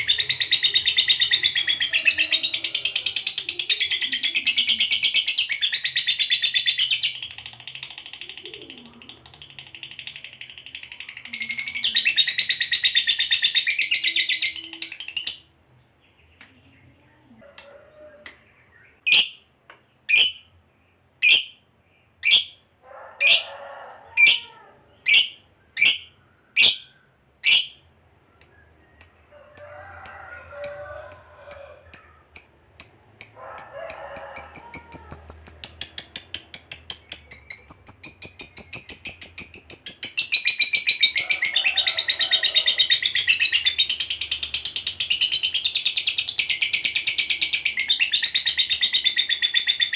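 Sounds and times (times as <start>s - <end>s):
lovebird chattering and trilling: 0.0s - 15.5s, 19.0s - 19.5s, 20.1s - 20.6s, 21.2s - 21.6s, 22.2s - 22.6s, 25.0s - 49.9s.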